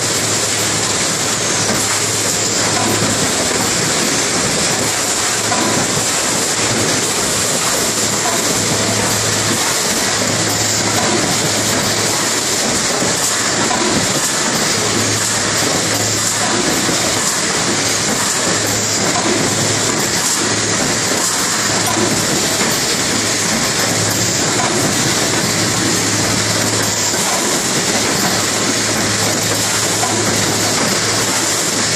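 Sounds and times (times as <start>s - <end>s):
machine hiss: 0.0s - 31.9s
packing machine running: 0.0s - 31.9s.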